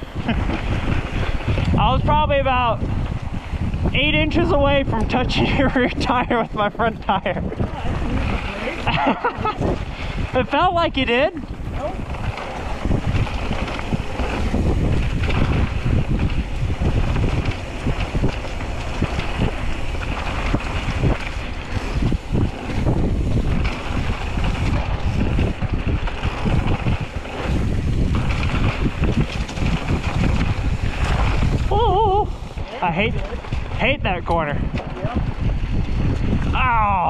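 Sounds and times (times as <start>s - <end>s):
bike knocking and rattling: 0.0s - 37.0s
wind buffeting microphone: 0.0s - 37.0s.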